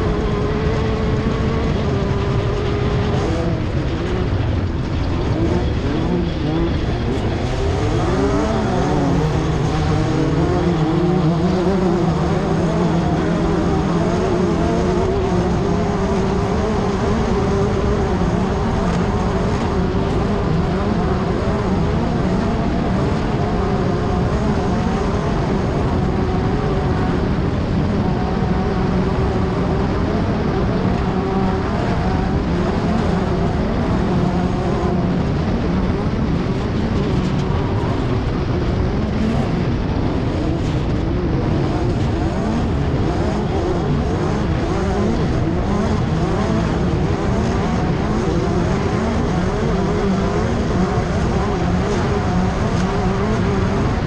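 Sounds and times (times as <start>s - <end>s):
constant rush of noise: 0.0s - 54.0s
race car engine running hard: 0.0s - 54.0s.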